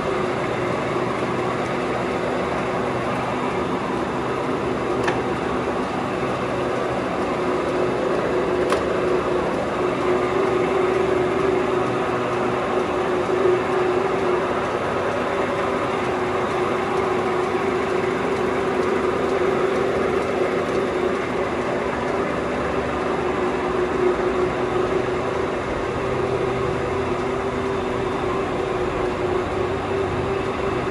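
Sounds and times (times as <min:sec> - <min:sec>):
lathe whirring: 0:00.0 - 0:30.9.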